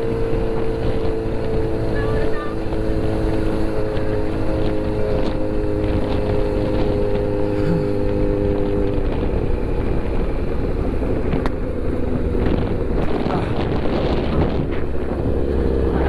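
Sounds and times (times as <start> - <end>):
motorcycle engine running: 0.0 - 16.0
road noise: 0.0 - 16.0
wind noise on microphone: 0.0 - 16.0.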